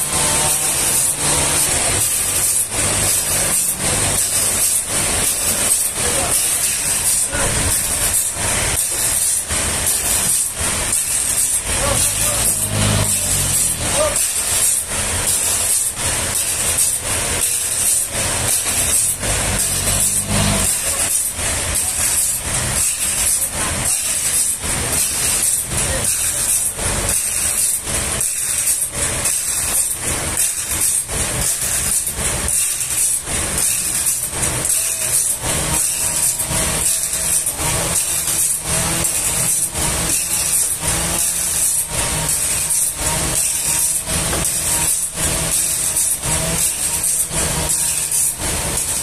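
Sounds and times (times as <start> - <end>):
background music with shaker beat: 0.0 - 49.0
forklift engine running: 0.0 - 49.0.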